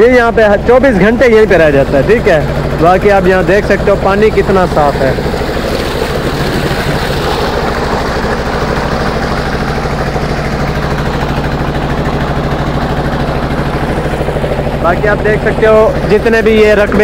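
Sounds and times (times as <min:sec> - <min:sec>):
pump engine running: 0:00.0 - 0:17.0
water pouring: 0:01.2 - 0:17.0.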